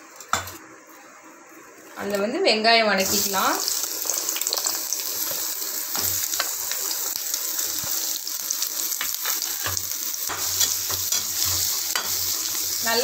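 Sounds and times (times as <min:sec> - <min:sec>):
onions sizzling in oil: 0:01.9 - 0:13.0.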